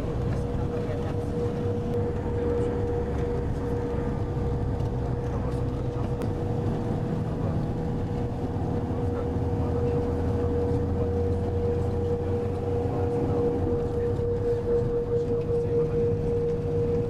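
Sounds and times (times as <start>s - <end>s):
engine and road rumble: 0.0s - 17.0s
steady whine: 0.0s - 17.0s.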